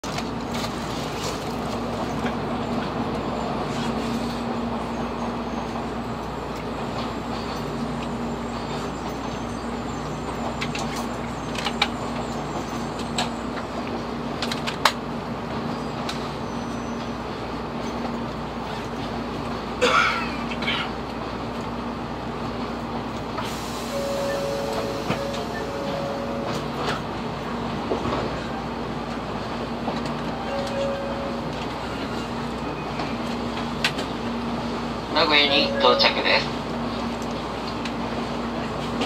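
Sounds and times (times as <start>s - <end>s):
train running noise inside car: 0.0s - 39.0s.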